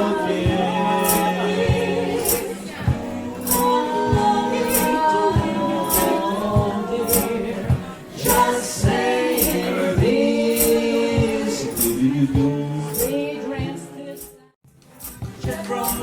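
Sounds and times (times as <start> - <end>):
hand percussion beat: 0.0 - 14.4, 15.0 - 16.0
voices singing a cappella harmony: 0.0 - 14.5, 15.4 - 16.0.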